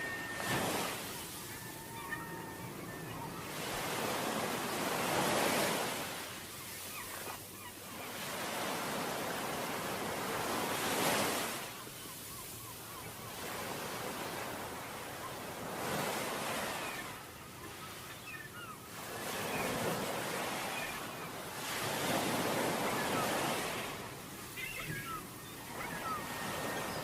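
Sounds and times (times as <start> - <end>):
waves breaking on beach: 0.0 - 17.2, 17.9 - 27.0
wind: 0.0 - 27.0.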